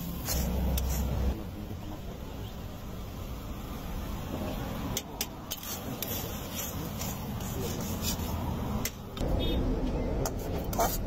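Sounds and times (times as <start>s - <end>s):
background noise: 0.0s - 11.0s.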